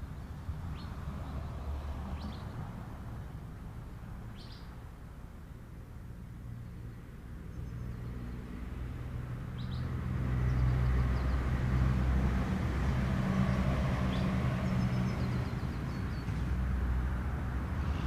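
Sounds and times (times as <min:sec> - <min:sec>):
passing vehicle engine hum: 0:00.0 - 0:18.0.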